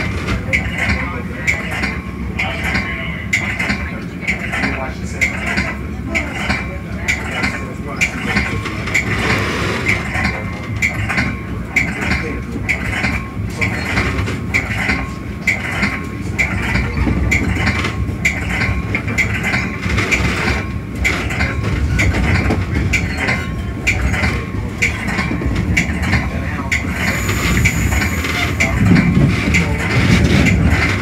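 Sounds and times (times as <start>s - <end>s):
regular rail clicking: 0.0s - 31.0s
train wheels rumbling on rails: 0.0s - 31.0s.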